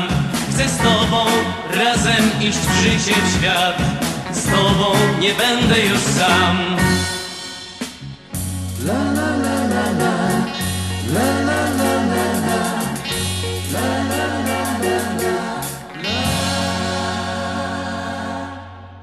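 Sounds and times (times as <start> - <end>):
pop song with wordless vocals: 0.0 - 8.0, 8.6 - 19.0.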